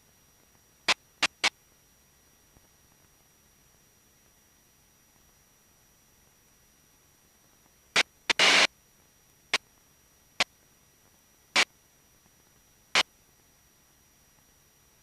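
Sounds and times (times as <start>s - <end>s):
static crackles: 0.0s - 15.0s.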